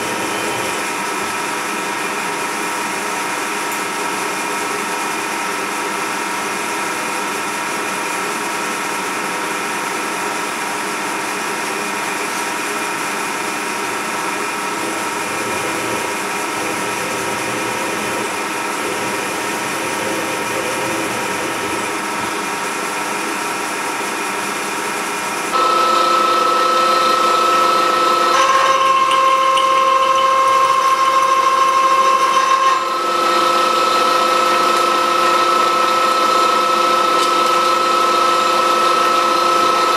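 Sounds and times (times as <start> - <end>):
milling machine spindle whine: 0.0 - 6.6, 11.1 - 39.9.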